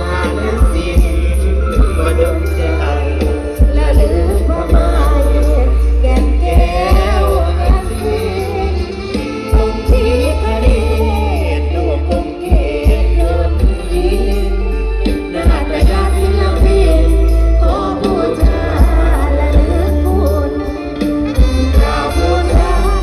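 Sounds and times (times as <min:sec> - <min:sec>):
heavy bass line: 0:00.0 - 0:23.0
person singing: 0:00.0 - 0:23.0
steady drum beat: 0:00.0 - 0:23.0.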